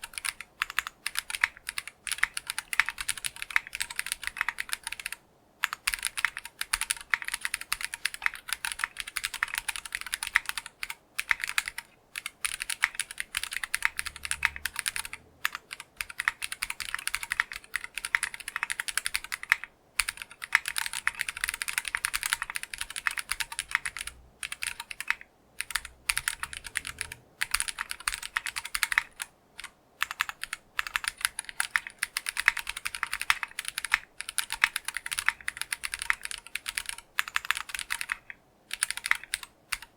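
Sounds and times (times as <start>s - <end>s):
mechanical keyboard key clacks: 0.0s - 39.9s.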